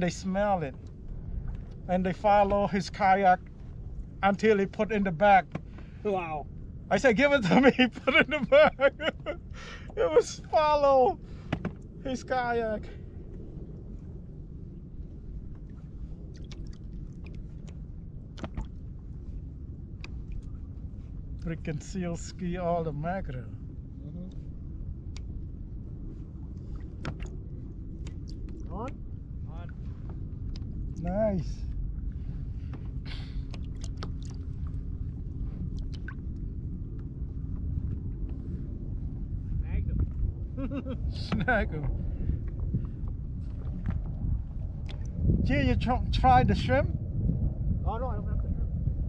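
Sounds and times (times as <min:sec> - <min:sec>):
wind and water rumble: 0:00.0 - 0:49.0.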